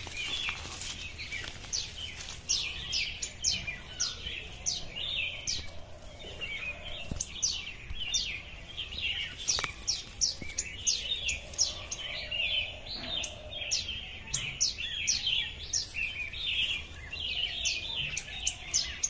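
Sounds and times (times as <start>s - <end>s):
birds twittering: 0.0s - 19.0s.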